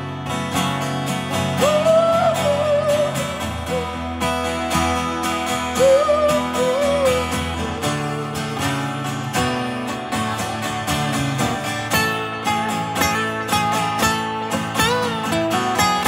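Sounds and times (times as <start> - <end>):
acoustic guitars strumming: 0.0 - 16.0.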